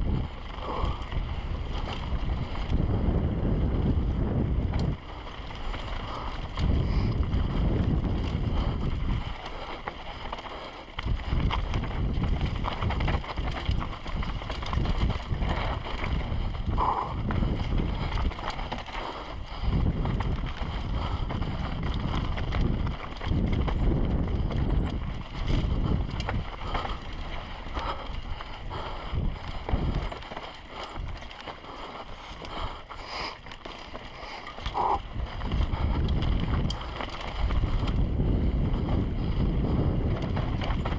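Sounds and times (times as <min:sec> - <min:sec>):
wind rushing over microphone: 0:00.0 - 0:33.4, 0:34.1 - 0:40.9
bike rattling over dirt and rocks: 0:00.0 - 0:40.9.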